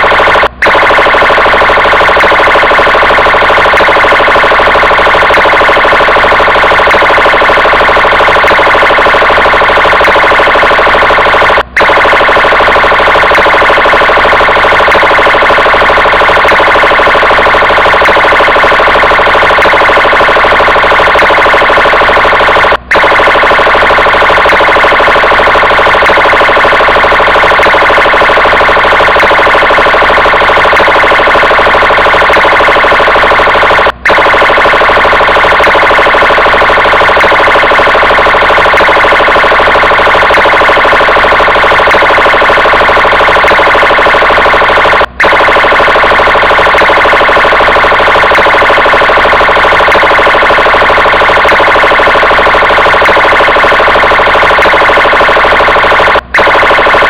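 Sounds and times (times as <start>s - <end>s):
police car siren: 0.0s - 57.0s.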